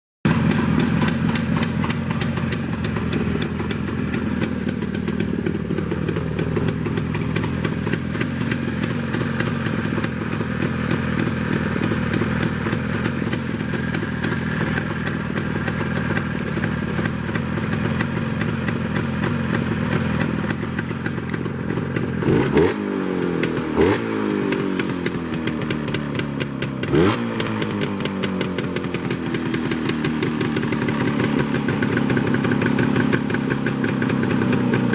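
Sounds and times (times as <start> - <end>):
engine idling and revving: 0.3 - 34.9.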